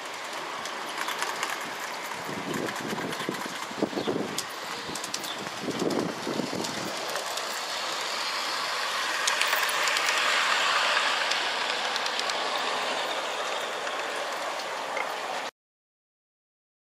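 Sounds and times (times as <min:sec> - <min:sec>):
train wheel clicks: 0:00.0 - 0:15.3
model train rolling: 0:00.0 - 0:15.5.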